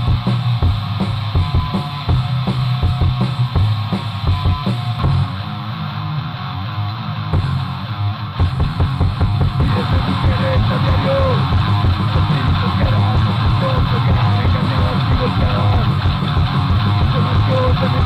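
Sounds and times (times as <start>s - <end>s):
punk rock song: 0.0s - 18.0s.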